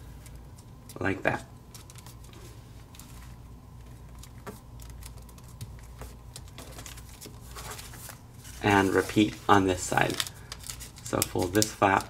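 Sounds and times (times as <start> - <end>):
paper creasing and rustling: 0.0 - 12.0.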